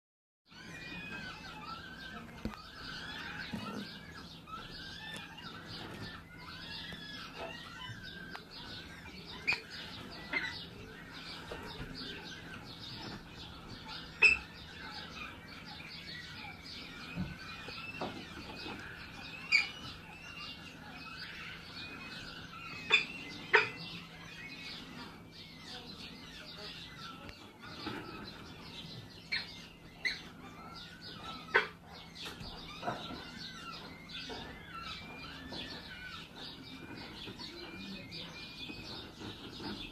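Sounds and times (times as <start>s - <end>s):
small birds chirping: 0.5s - 39.9s.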